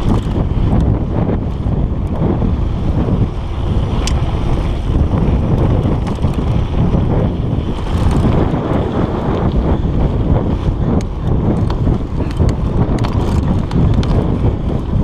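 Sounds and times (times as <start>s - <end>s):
bike rattling over gravel: 0.0s - 15.0s
wind buffeting microphone: 0.0s - 15.0s.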